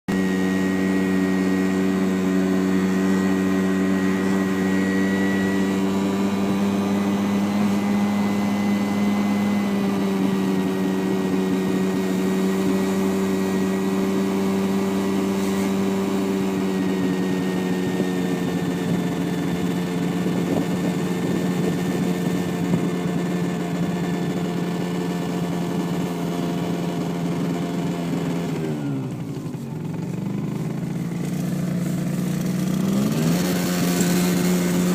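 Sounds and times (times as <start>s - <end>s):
scooter engine running: 0.1s - 34.9s.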